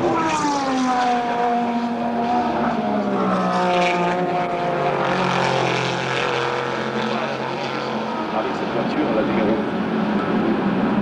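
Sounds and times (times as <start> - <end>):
racing cars passing at speed: 0.0 - 11.0.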